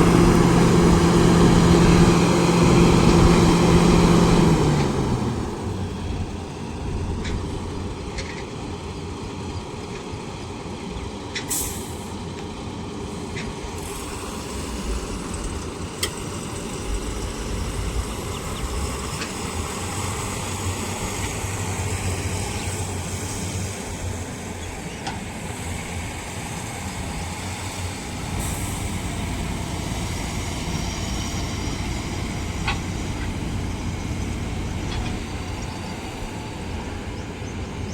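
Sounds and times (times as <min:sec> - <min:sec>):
heavy diesel machinery running: 0:00.0 - 0:37.9.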